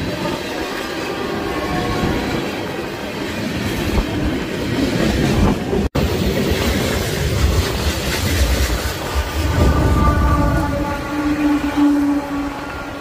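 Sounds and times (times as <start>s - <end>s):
train wheels rumbling and clacking: 0.0s - 13.0s.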